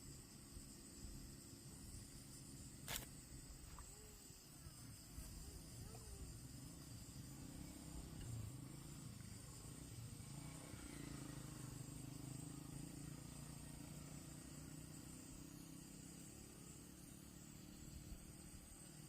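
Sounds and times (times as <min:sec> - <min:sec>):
faint low hum: 0:00.0 - 0:19.0
light hiss: 0:00.0 - 0:19.0.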